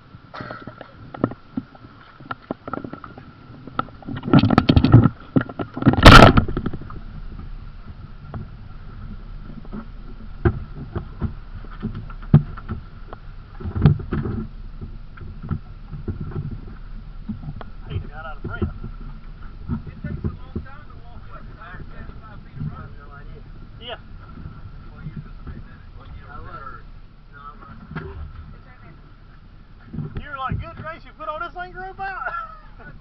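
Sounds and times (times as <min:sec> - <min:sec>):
water sloshing against boat hull: 0:00.0 - 0:33.0.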